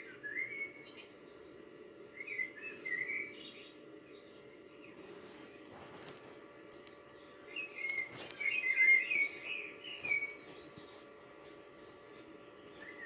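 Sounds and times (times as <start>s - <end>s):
songbird warbling chirps: 0.0s - 5.6s, 6.8s - 11.1s, 12.1s - 13.0s
faint steady hum: 0.0s - 13.0s.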